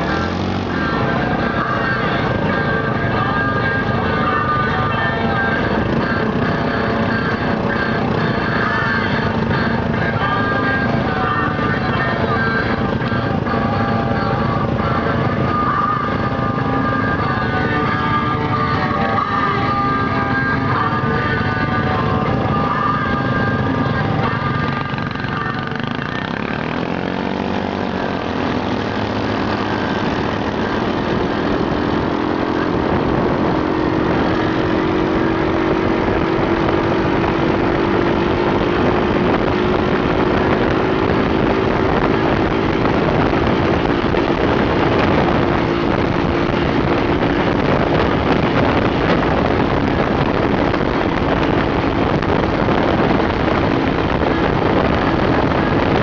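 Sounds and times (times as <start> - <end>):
buggy engine running: 0.0 - 56.0
tyres on gravel road: 0.0 - 56.0.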